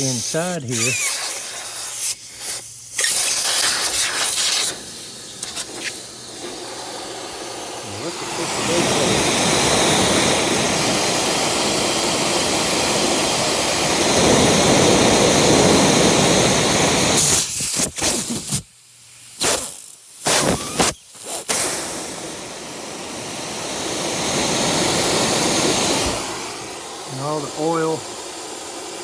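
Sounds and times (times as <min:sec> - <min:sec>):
gas hissing from a leak: 0:00.0 - 0:29.0.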